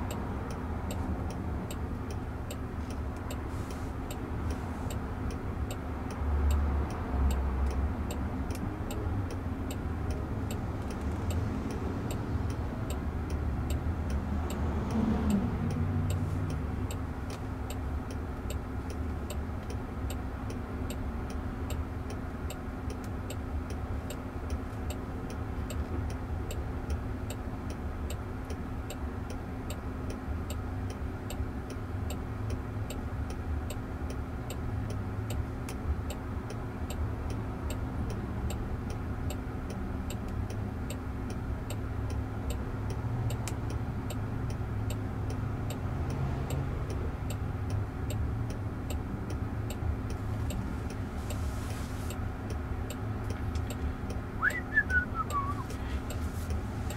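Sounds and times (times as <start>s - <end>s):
low cabin and traffic hum: 0.0s - 56.9s
turn signal ticking: 0.0s - 56.9s.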